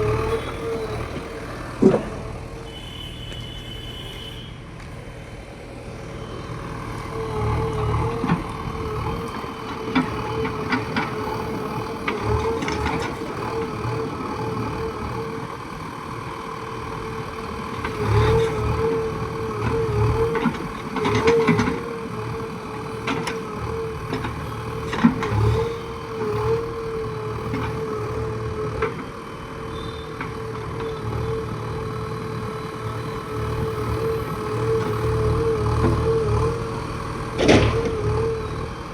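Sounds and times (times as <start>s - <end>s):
diesel engine revving: 0.0s - 2.8s, 6.0s - 38.9s.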